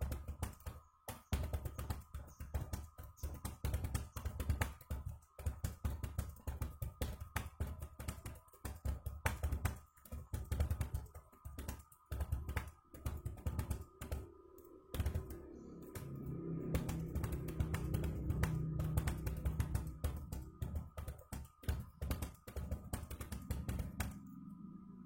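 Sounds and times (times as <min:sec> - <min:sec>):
fast typing on keyboard: 0:00.0 - 0:14.3, 0:14.9 - 0:24.5.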